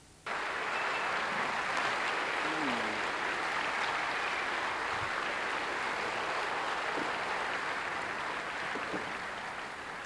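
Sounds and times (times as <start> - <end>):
large audience applauding: 0.3 - 10.0.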